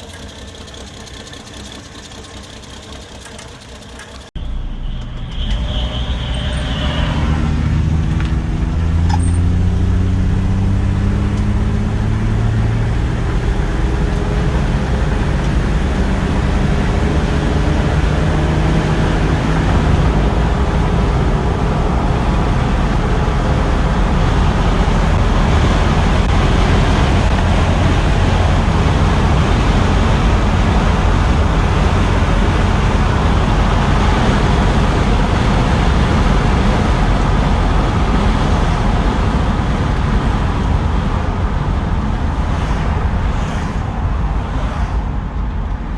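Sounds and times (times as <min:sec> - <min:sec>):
car engine accelerating: 0:00.0 - 0:45.9
road noise: 0:00.0 - 0:45.9.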